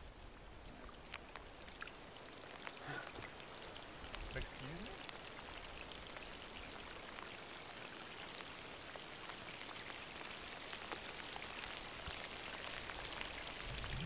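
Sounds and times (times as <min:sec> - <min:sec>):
soft even hiss: 0:00.0 - 0:14.0
faint scattered ticks: 0:00.1 - 0:14.0.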